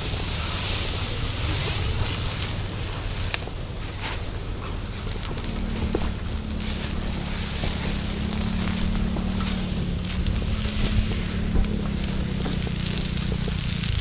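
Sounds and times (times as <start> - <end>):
branches brushing and rustling: 0.0 - 14.0
footstep crunches: 0.0 - 14.0
low steady hum: 0.0 - 14.0
wind rumbling on microphone: 0.0 - 14.0.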